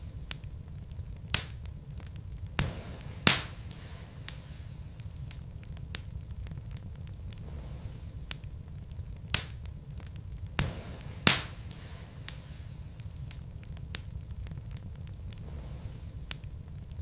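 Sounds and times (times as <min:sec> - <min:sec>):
logs crackling in a fireplace: 0:00.0 - 0:17.0
sharp pops of burning wood: 0:00.0 - 0:17.0.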